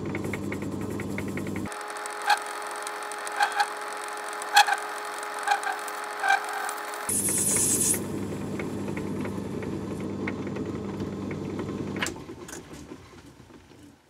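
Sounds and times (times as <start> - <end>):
metal lathe motor hum: 0.1 - 12.0.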